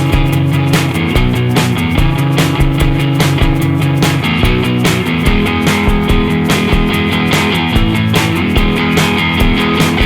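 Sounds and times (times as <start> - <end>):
rock music with guitar and drums: 0.0 - 10.0.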